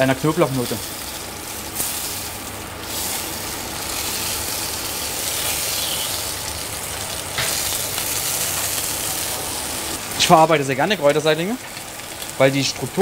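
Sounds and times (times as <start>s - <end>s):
oil sizzling in frying pans: 0.0s - 13.0s.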